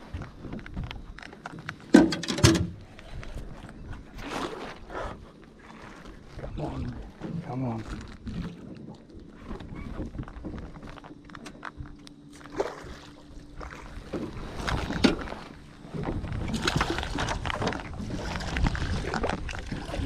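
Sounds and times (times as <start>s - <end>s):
steady low hum: 0.0s - 20.0s
water splashing beside boat: 0.0s - 20.0s.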